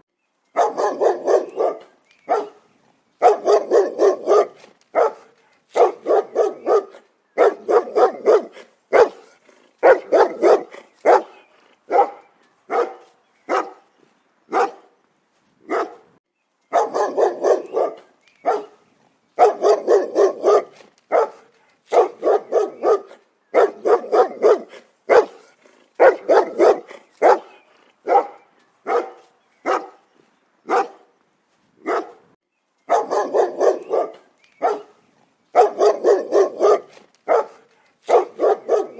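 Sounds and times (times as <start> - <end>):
dog barking: 0.6 - 2.6, 3.2 - 13.9, 14.5 - 14.9, 15.7 - 16.1, 16.7 - 18.8, 19.4 - 30.0, 30.7 - 31.1, 31.8 - 32.3, 32.9 - 38.9.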